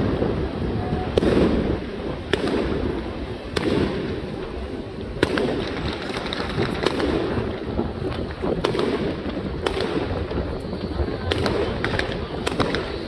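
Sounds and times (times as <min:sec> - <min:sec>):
sharp firecracker bang: 0:00.0 - 0:04.5, 0:05.2 - 0:13.0
rumble of fireworks explosions: 0:00.0 - 0:13.0.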